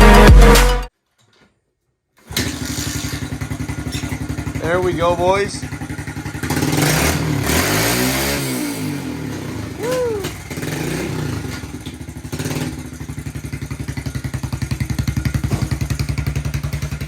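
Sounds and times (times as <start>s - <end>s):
motorcycle engine revving and idling: 2.3s - 17.0s.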